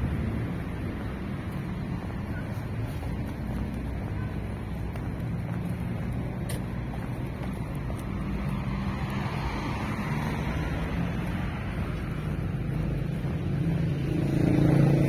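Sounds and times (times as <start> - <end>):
street traffic hum: 0.0 - 15.0.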